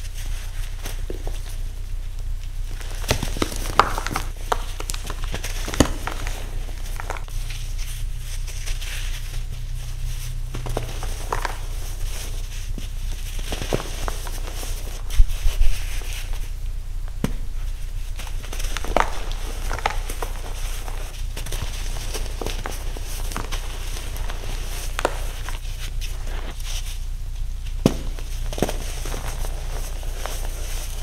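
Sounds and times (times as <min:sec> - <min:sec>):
crumbly crunching and crackling: 0:00.0 - 0:31.0.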